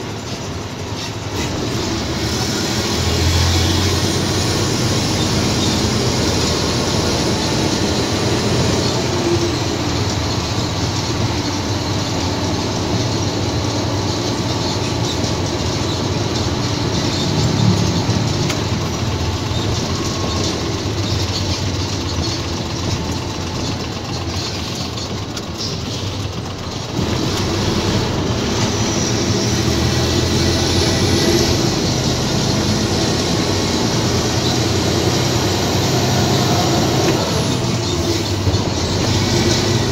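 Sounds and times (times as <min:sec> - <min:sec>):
road noise: 0:00.0 - 0:39.9
truck engine running: 0:00.0 - 0:39.9
cab rattle: 0:03.6 - 0:39.9.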